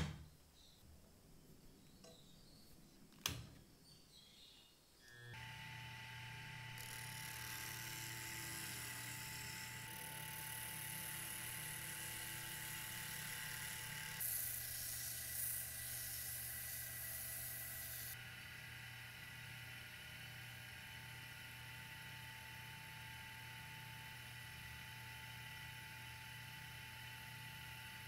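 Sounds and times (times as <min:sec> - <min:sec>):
lathe motor humming and whining: 0:05.1 - 0:28.0.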